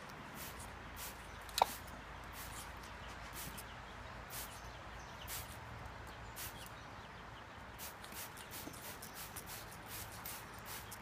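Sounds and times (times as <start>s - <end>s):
steady hiss: 0.0s - 5.6s, 6.3s - 6.7s, 7.8s - 11.0s.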